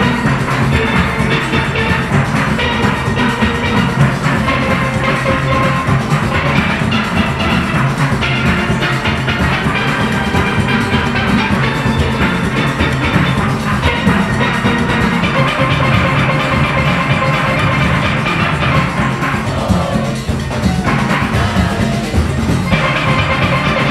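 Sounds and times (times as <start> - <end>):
drums and percussion: 0.0 - 23.9
steel orchestra playing calypso: 0.0 - 23.9.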